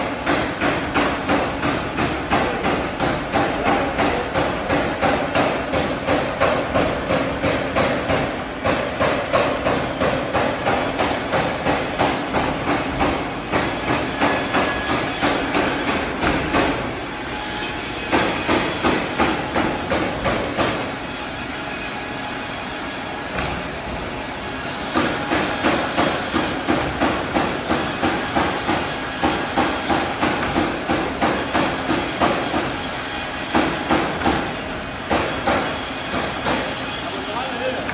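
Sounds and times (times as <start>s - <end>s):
sawmill machinery running: 0.0s - 37.9s.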